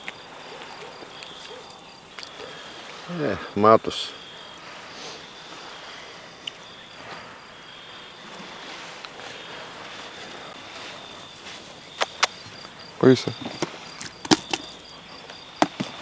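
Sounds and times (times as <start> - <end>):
insects chirring: 0.0 - 16.0
low outdoor hiss: 0.0 - 16.0.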